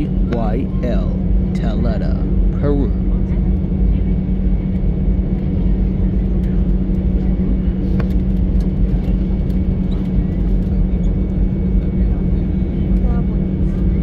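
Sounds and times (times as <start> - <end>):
airliner cabin hum and rumble: 0.0 - 14.0.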